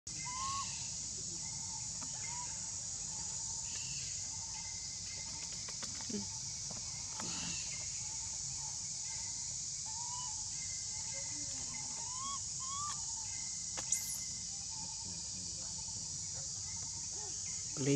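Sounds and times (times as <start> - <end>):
steady high-pitched hiss: 0.1 - 17.9.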